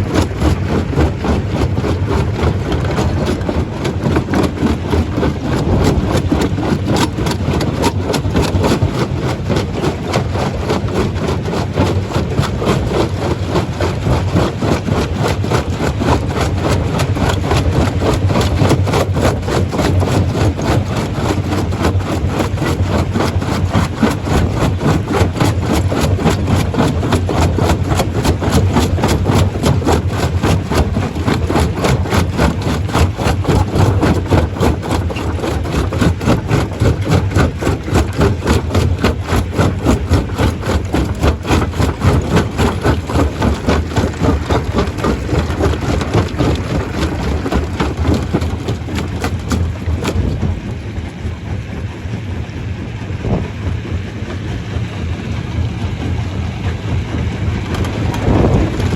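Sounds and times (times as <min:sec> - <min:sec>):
stone crusher machinery running: 0:00.0 - 0:50.8.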